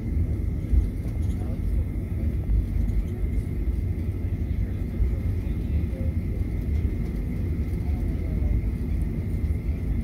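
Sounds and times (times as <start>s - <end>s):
aircraft cabin low rumble: 0.0s - 10.0s.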